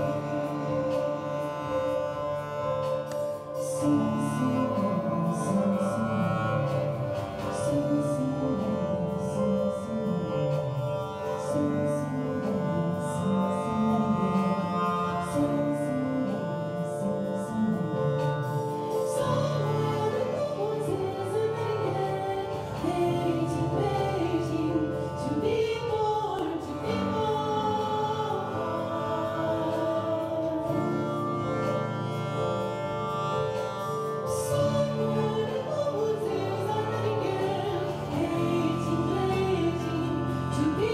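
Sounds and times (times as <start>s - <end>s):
woman singing operatically: 0.0s - 31.8s, 34.3s - 40.9s
harp drone tones: 0.0s - 40.9s.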